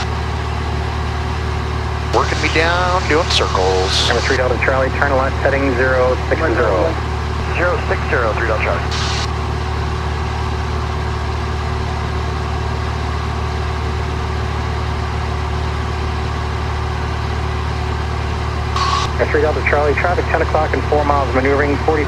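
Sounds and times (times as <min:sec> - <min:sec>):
aircraft engine and propeller droning: 0:00.0 - 0:22.0.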